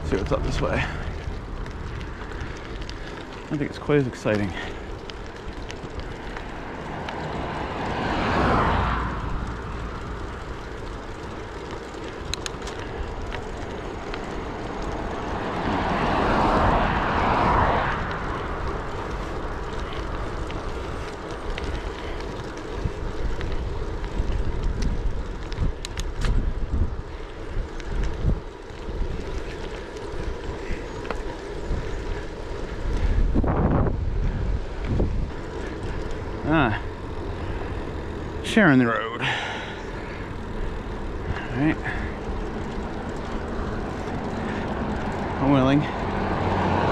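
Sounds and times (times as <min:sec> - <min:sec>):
motor vehicles passing: 0:00.0 - 0:46.9
wind and road noise: 0:00.0 - 0:46.9.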